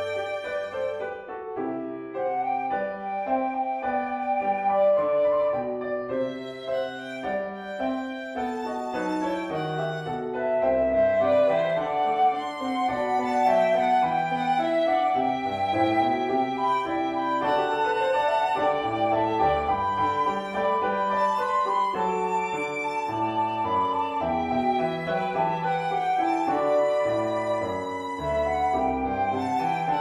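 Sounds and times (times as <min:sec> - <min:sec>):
flute violin and piano trio: 0:00.0 - 0:30.0.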